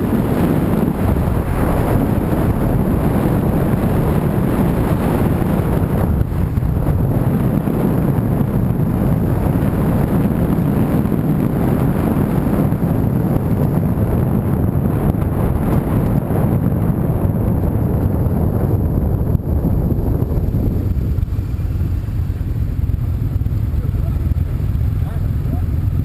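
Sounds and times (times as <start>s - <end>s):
vehicle engine and road rumble: 0.0s - 26.0s
wind buffeting microphone: 0.0s - 26.0s.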